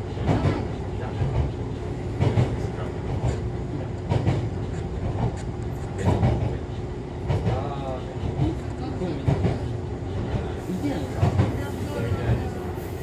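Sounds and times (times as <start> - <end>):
railcar running rumble: 0.0 - 13.0.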